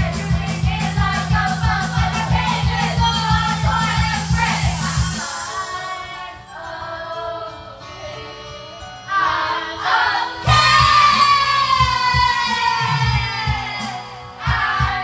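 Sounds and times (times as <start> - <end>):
pop backing track: 0.0 - 15.0
women singing into microphone: 0.0 - 15.0.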